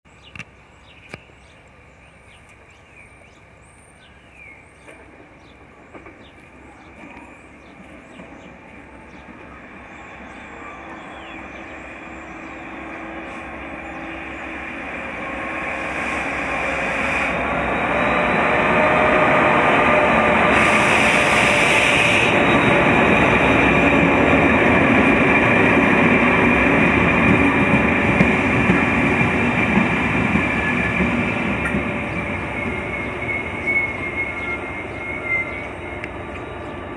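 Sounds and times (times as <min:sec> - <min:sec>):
diesel locomotive engine: 0:00.6 - 0:36.9
train wheels rumbling on rail: 0:01.5 - 0:36.9.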